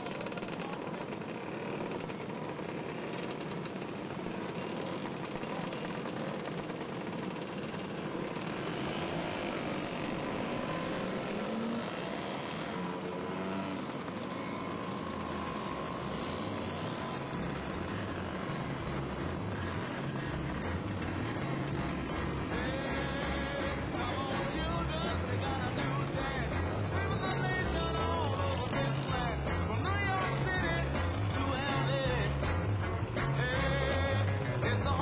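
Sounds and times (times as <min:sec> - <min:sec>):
scooter engines revving: 0:00.0 - 0:35.0.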